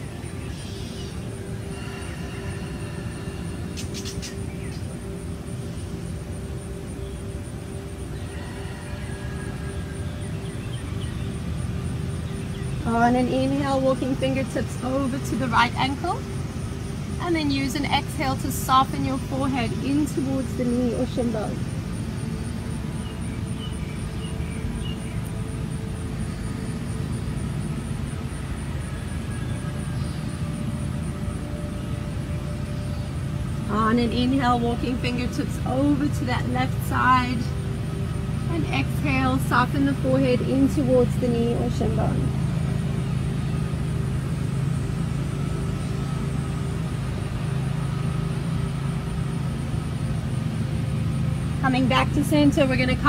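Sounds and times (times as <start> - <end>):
low hum: 0.0 - 53.0
low outdoor rumble: 0.0 - 53.0.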